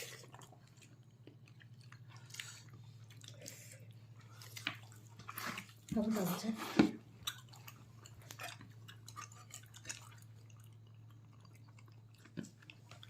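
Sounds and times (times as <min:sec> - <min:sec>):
mouth clicks and smacks chewing: 0:00.0 - 0:05.9, 0:07.2 - 0:13.0.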